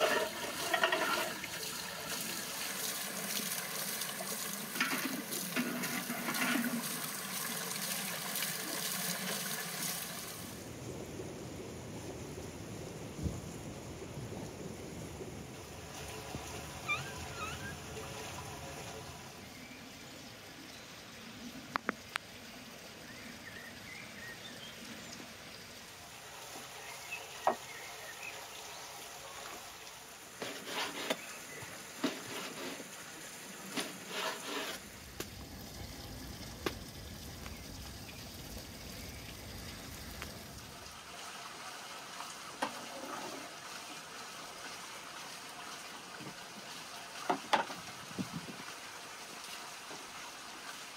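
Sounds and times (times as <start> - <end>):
water trickling: 0.0 - 10.6, 15.4 - 50.9.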